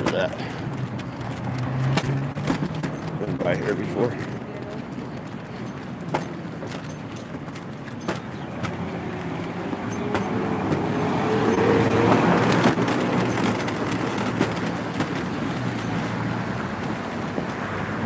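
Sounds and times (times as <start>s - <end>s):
wheels rolling on concrete: 0.0s - 18.0s
motor vehicle passing: 0.4s - 5.8s, 8.3s - 18.0s.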